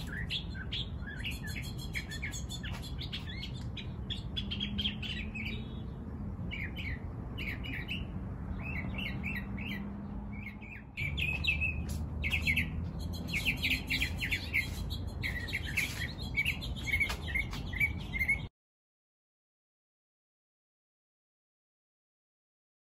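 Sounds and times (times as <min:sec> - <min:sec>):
small birds chirping: 0:00.0 - 0:18.5.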